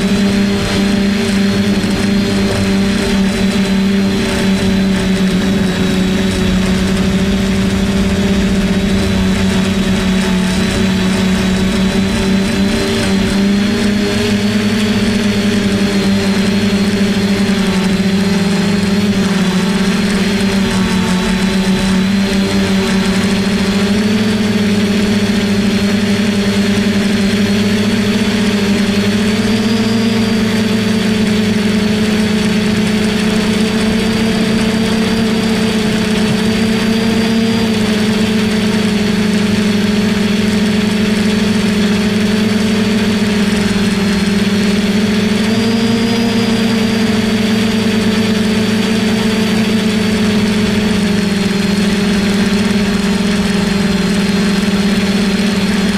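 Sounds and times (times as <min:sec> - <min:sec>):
quadcopter motors buzzing: 0:00.0 - 0:55.9.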